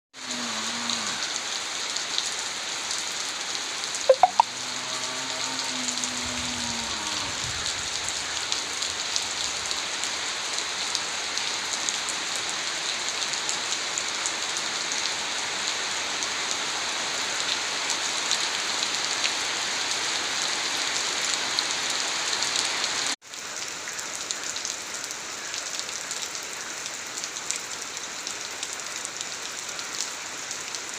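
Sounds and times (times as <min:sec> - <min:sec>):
rain falling: 0:00.2 - 0:30.9.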